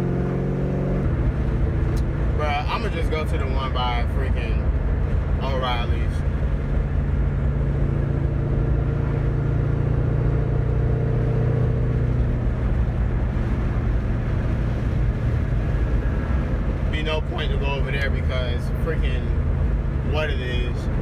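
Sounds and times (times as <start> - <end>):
car engine and exhaust droning: 0.0 - 21.0
road noise: 0.0 - 21.0.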